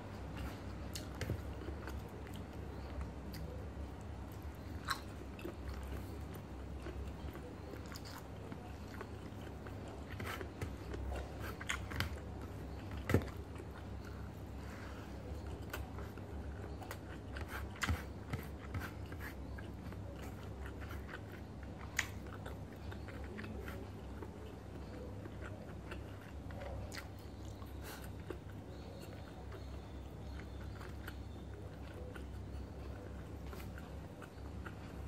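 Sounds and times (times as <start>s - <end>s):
low steady hum: 0.0s - 35.0s
person chewing food: 0.0s - 35.0s.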